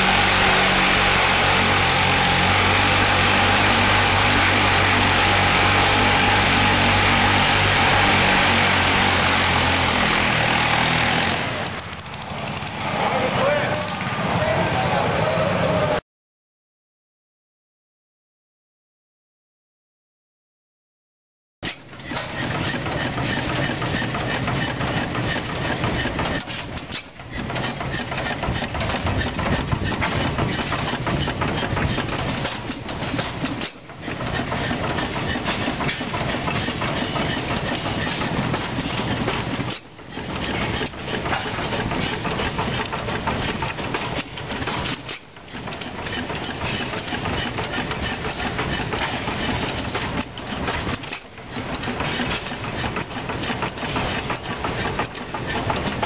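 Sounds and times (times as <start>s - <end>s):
stationary gas engine clattering: 0.0s - 14.4s, 21.6s - 56.0s.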